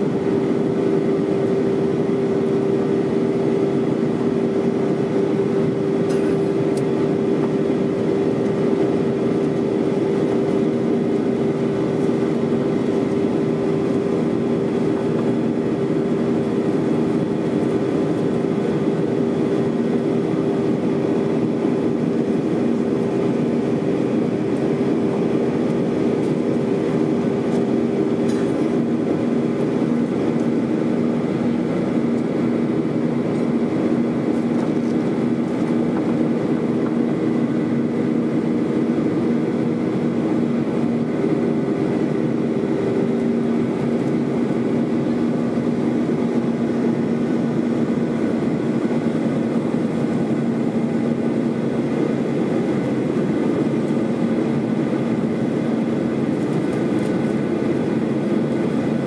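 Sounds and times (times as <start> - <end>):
jet engines inside airliner cabin: 0.0 - 59.0.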